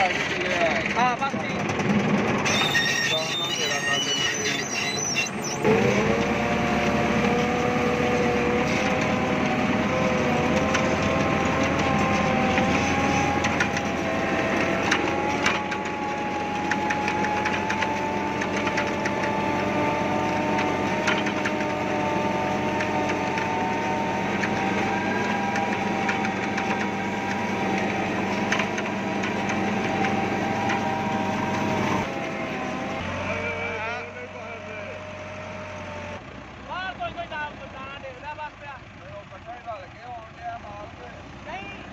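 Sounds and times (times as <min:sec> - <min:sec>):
tractor engine under load: 0:00.0 - 0:41.9.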